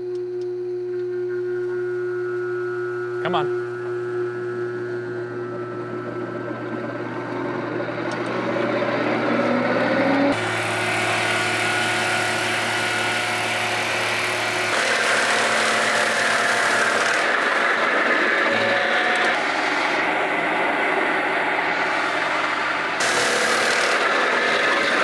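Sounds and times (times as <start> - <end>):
sawmill engine and blade humming: 1.1 - 25.0.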